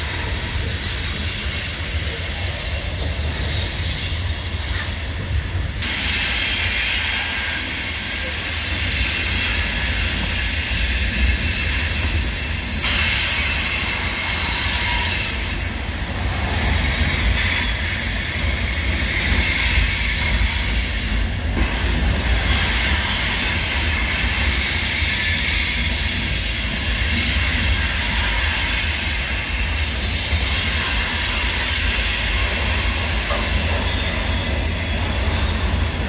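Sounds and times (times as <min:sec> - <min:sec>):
train rumbling over bridge: 0:00.0 - 0:36.0
wheels hissing on rail: 0:00.0 - 0:36.0.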